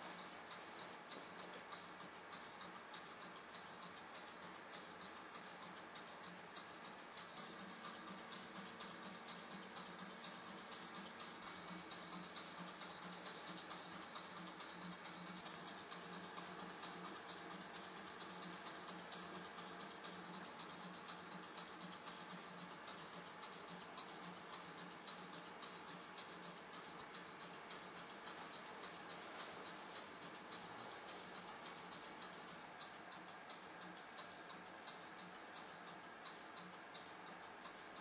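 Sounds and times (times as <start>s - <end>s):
faint steady hum: 0.0s - 38.0s
model steam engine ticking: 0.0s - 38.0s.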